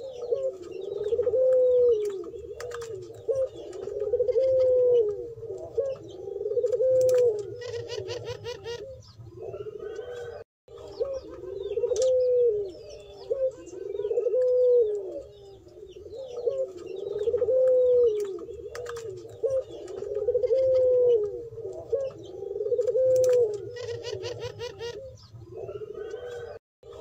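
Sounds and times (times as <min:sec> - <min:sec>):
doves cooing: 0:00.0 - 0:27.0
small birds chirping: 0:00.0 - 0:27.0.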